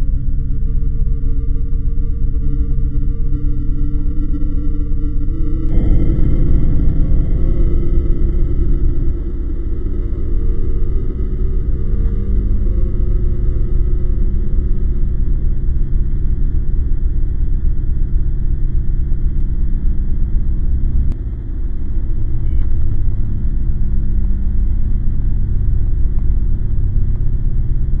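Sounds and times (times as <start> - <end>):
faint steady hum: 0.0 - 28.0
loud low rumble: 0.0 - 28.0.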